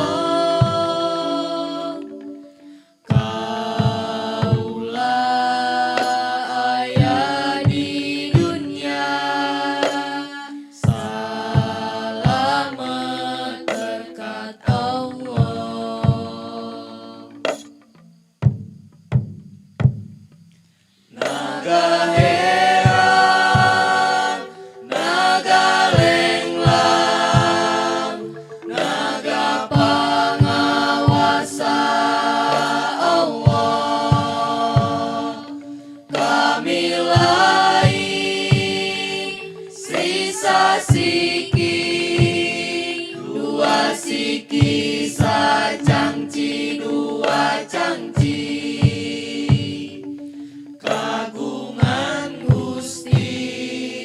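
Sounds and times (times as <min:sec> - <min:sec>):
group chanting: 0:00.0 - 0:17.6, 0:21.1 - 0:54.0
sharp percussion strikes: 0:00.0 - 0:54.0.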